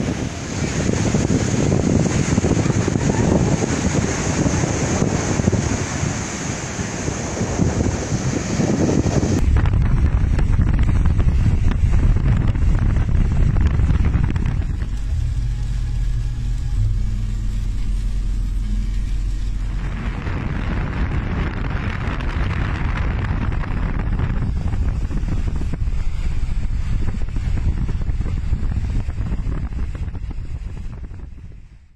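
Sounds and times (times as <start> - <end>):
hissing rush: 0.0 - 31.2
steady low hum: 0.0 - 31.9
wind buffeting microphone: 0.0 - 31.9.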